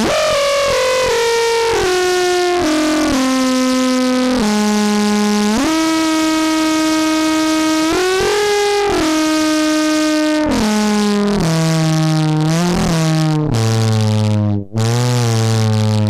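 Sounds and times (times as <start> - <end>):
distorted synth tone: 0.0 - 16.0.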